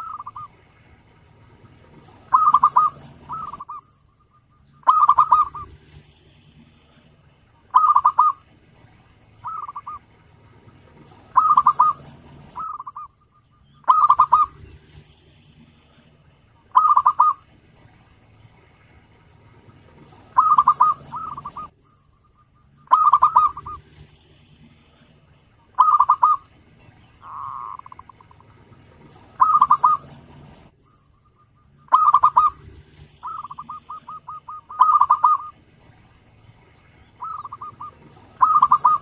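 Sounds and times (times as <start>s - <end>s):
dove cooing: 0.0s - 0.6s, 1.2s - 7.0s, 7.6s - 18.1s, 19.2s - 39.0s.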